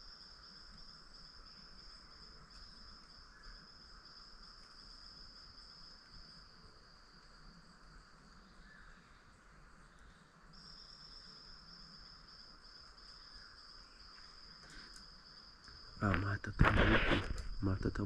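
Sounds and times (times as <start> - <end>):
distant insects hiss: 0.0 - 18.0
insect high-pitched trill: 0.0 - 18.0.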